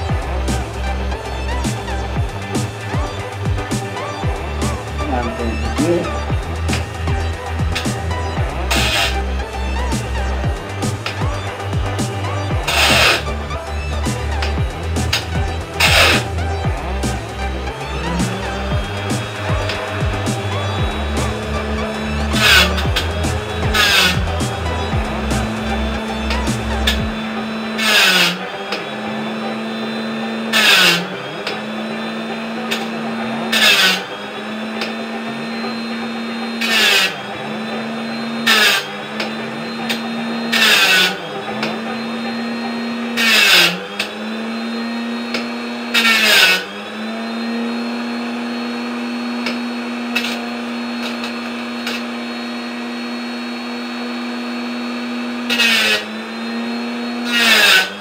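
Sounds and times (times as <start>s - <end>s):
rotary tool motor running: 0.0s - 58.0s
shrill grinding on metal: 0.0s - 58.0s.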